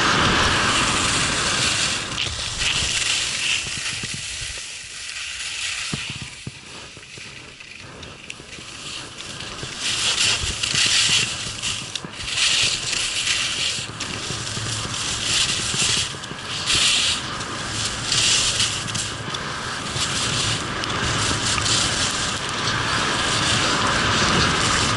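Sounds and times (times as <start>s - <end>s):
skis scraping on snow: 0.0s - 24.9s.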